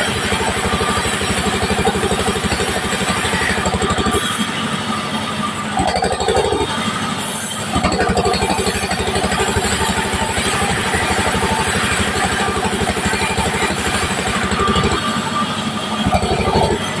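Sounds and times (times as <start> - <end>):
band saw cutting wood: 0.0 - 17.0
machine low chugging: 0.0 - 17.0.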